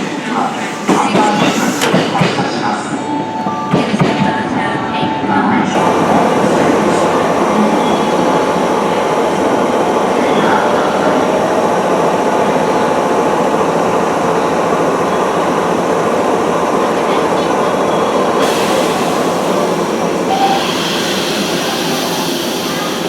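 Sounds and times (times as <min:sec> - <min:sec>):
train wheels rumbling on rails: 0:00.0 - 0:03.0, 0:05.7 - 0:23.0.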